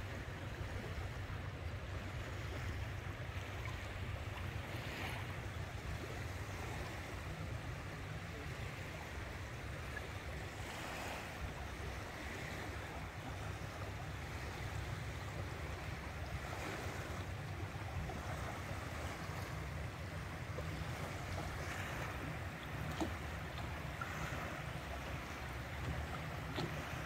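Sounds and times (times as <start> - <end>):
water rushing past boat hull: 0.0 - 27.0.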